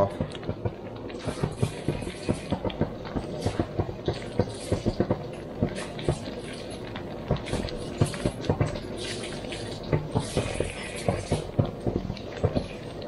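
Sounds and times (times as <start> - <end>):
jam bubbles popping: 0.0 - 13.0
wooden spoon stirring in pot: 0.2 - 13.0.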